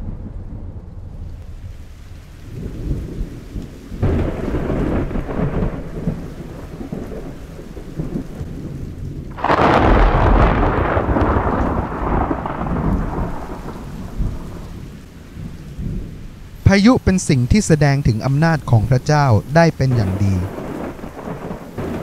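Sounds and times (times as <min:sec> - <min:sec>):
sharp thunder clap: 0:00.0 - 0:16.2, 0:19.8 - 0:22.0
thunder rumbling: 0:00.0 - 0:22.0.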